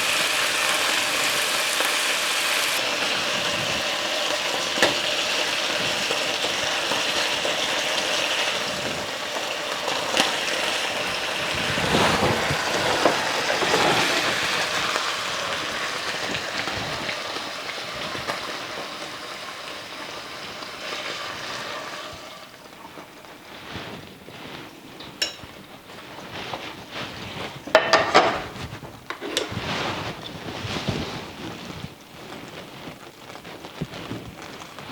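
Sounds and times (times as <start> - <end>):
meat sizzling in oil: 0.0 - 28.4.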